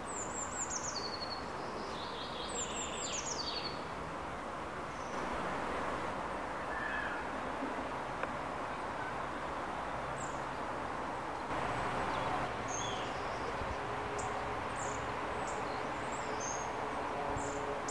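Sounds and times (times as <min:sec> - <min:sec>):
steady background hiss: 0:00.0 - 0:17.9.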